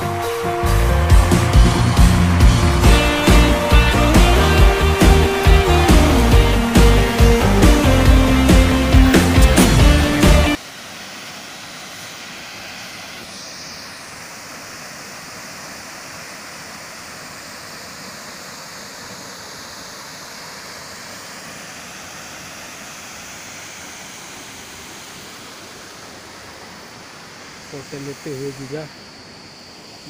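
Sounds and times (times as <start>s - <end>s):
waterfall rushing: 0.0s - 29.1s.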